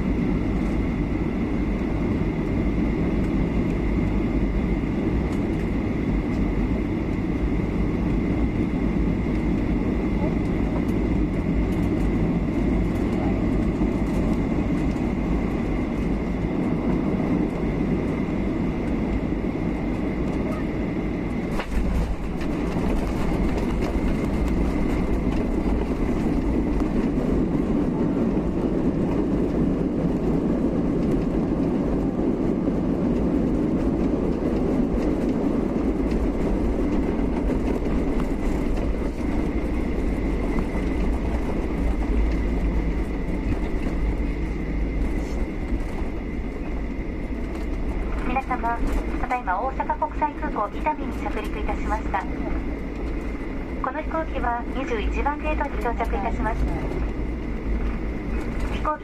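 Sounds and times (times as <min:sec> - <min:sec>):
aircraft engine and airflow rumble: 0:00.0 - 0:59.0
thin steady whine: 0:00.0 - 0:59.0.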